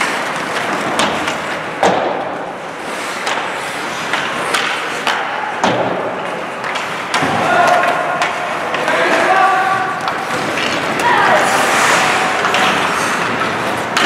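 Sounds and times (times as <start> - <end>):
hockey sticks and puck knocking: 0.0 - 14.0
skates scraping on ice: 0.0 - 14.0.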